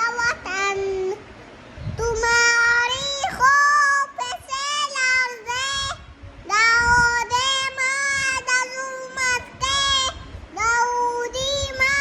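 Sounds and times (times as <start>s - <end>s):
high voice singing: 1.9s - 12.0s.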